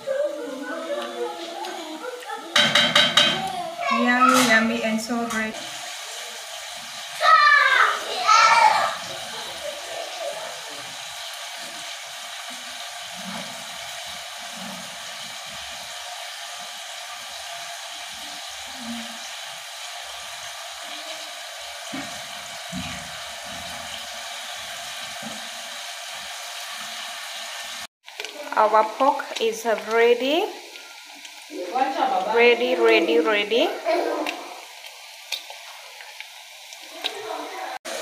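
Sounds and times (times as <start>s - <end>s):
pork sizzling in pot: 0.0s - 38.0s.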